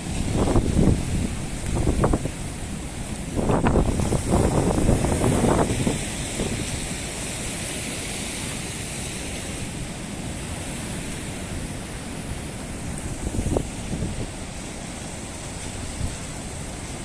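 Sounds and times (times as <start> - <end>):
rain hissing: 0.0 - 17.0
wind rumbling on microphone: 0.0 - 17.0.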